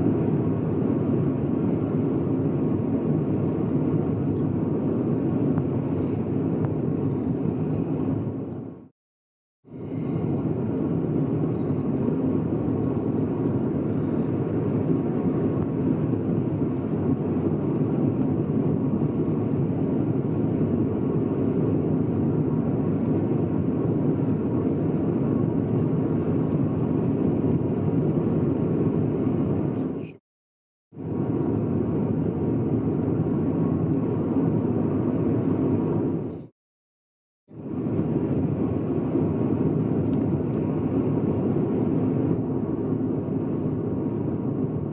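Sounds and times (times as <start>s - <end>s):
car cabin road and engine noise: 0.0s - 8.9s, 9.8s - 30.2s, 31.0s - 36.5s, 37.6s - 44.9s.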